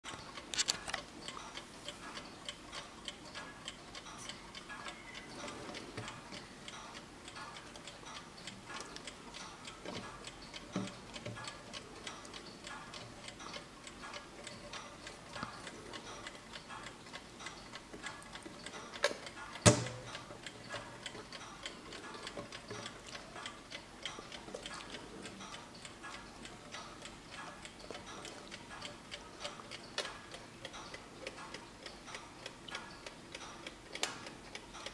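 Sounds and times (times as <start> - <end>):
alarm clock ticking: 0.1 - 34.9.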